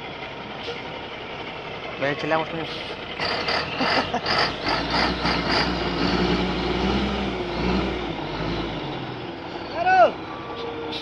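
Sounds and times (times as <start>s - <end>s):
heavy diesel truck engine labouring: 0.0s - 11.0s.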